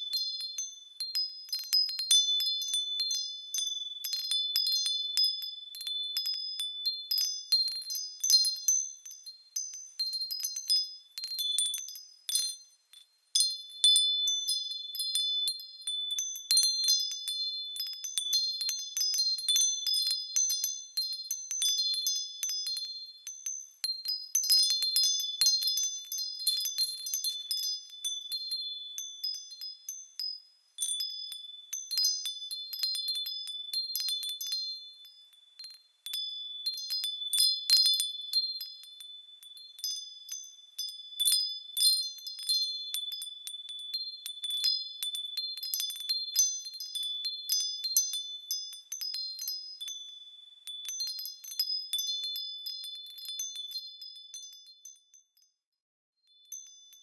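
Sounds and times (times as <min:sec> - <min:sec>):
small bells jangling: 0:00.0 - 0:55.6, 0:56.3 - 0:57.0.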